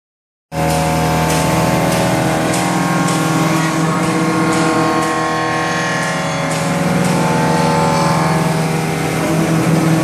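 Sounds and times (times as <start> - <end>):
milling machine whine: 0.6 - 10.0.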